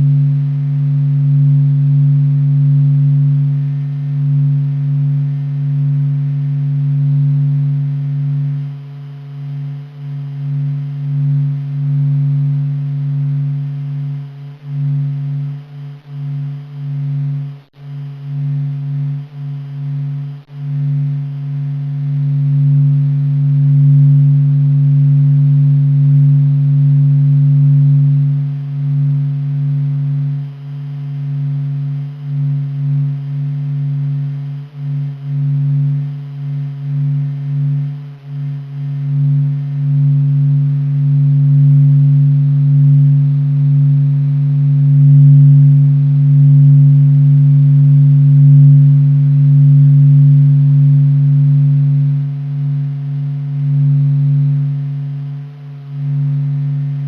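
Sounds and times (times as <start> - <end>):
deep steady hum with overtone: 0.0 - 57.0.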